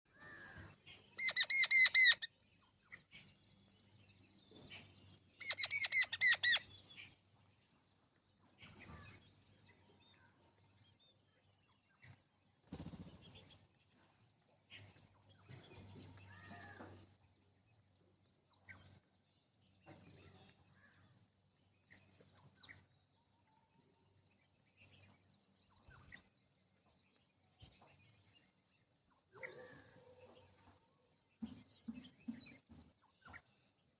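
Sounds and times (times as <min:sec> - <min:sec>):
sparrows chirping: 0:00.1 - 0:33.9.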